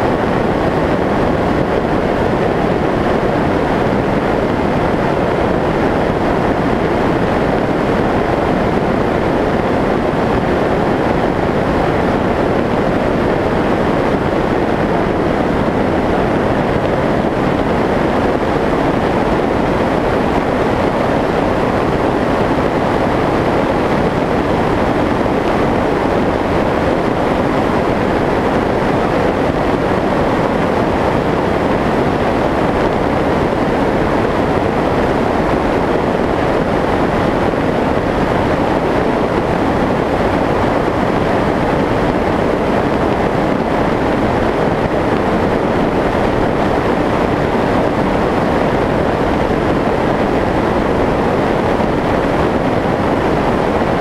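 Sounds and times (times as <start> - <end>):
rushing wind noise: 0.0 - 54.0.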